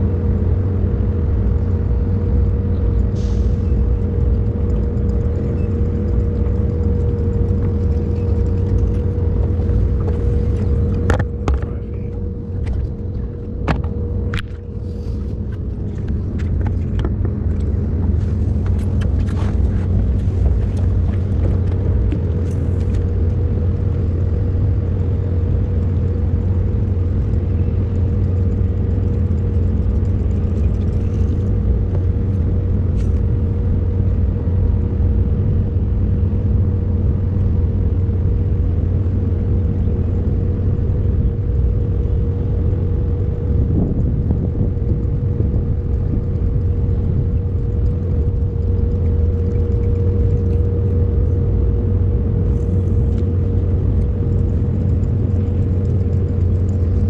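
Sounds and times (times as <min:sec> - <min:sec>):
small boat motor running: 0:00.0 - 0:57.0.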